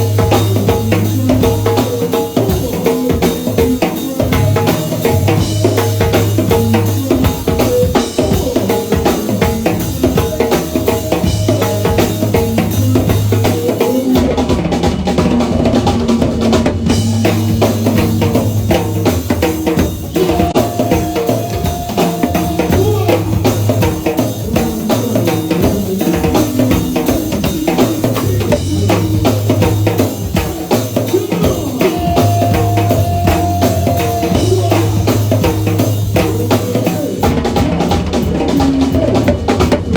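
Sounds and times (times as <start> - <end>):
bass drum and snare beat: 0.0 - 39.9
live band playing: 0.0 - 39.9.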